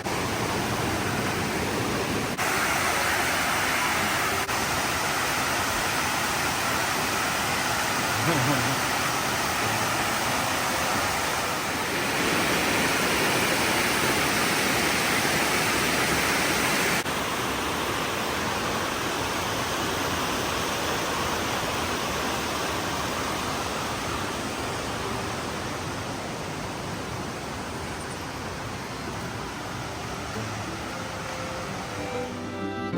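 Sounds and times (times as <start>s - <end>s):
rushing water: 0.0s - 32.6s.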